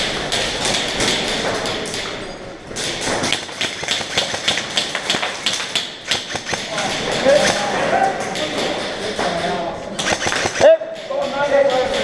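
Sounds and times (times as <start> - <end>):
airsoft guns firing: 0.0 - 12.0.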